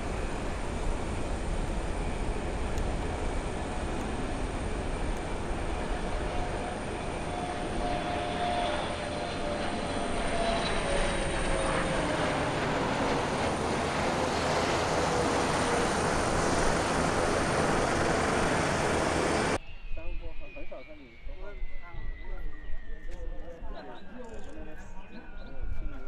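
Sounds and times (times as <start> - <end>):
jet airliner flying past: 0.0 - 26.0
thin jet engine whine: 0.0 - 26.0.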